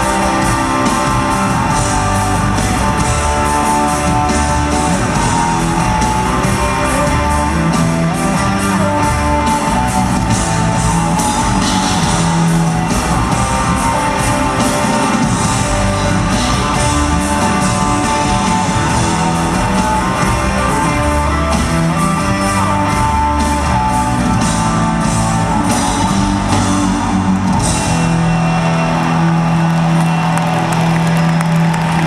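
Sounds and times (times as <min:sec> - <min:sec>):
instrumental rock music: 0:00.0 - 0:32.0.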